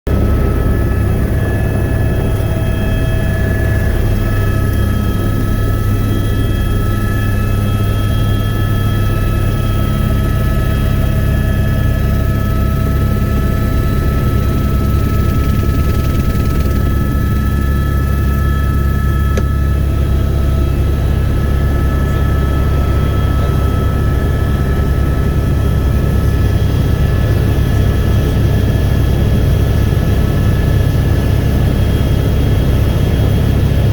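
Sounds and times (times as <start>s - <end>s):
helicopter drone: 0.1s - 33.9s.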